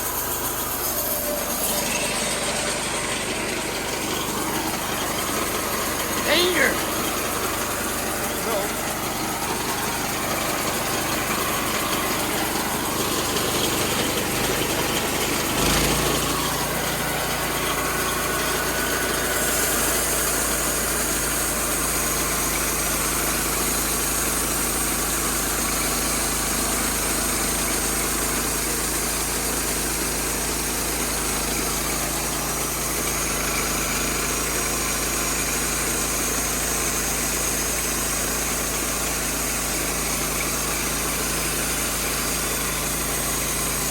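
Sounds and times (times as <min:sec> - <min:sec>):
sawmill running: 0:00.0 - 0:43.9.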